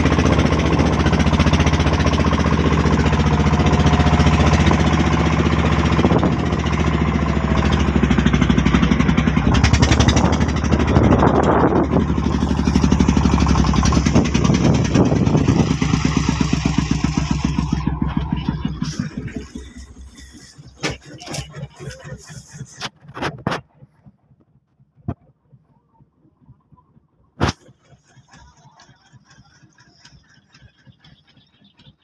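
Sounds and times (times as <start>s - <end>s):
diesel engine thumping: 0.0s - 32.0s.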